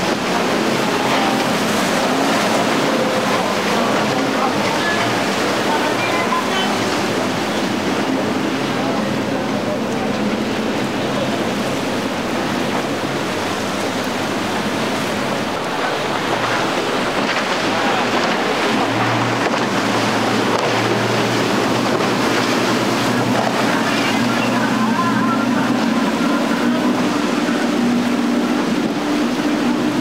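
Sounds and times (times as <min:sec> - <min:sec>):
outboard boat engines droning: 0:00.0 - 0:30.0
rush of boat wake and spray: 0:00.0 - 0:30.0.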